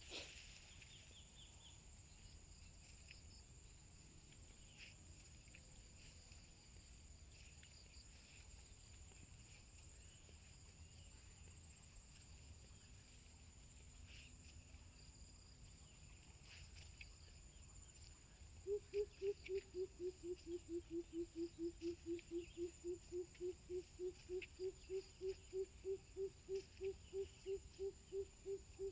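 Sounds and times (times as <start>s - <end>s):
insect chorus drone: 0.0s - 28.9s.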